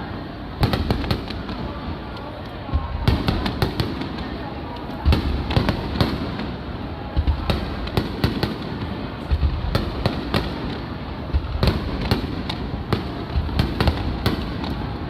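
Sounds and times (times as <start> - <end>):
fireworks bursting with sharp bangs: 0.0 - 15.0.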